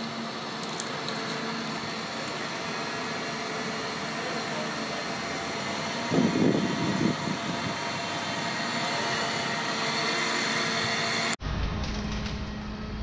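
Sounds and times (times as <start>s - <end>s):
heavy machine engine drone: 0.0s - 13.0s.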